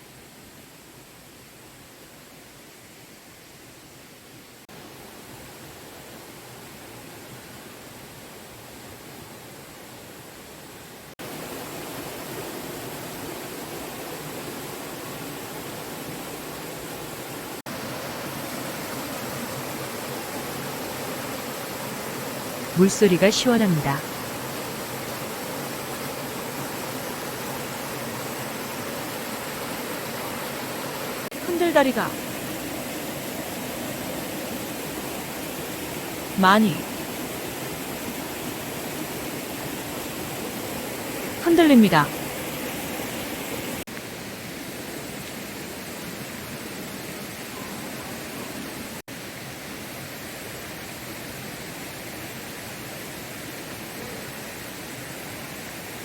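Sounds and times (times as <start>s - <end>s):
stream flowing: 0.1s - 56.0s.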